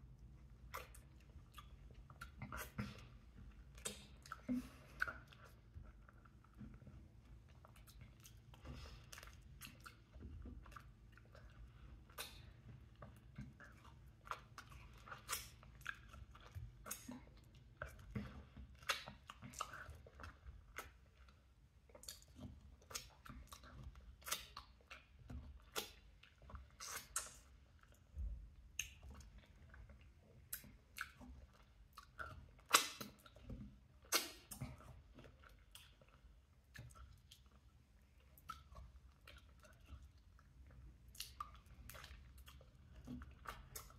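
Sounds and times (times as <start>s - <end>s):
person chewing with mouth clicks: 0.1s - 43.9s.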